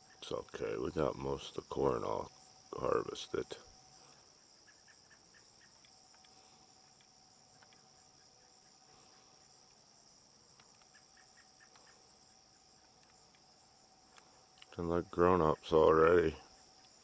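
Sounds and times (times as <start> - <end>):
faint steady hum: 0.0 - 17.0
insect trill: 0.0 - 17.0.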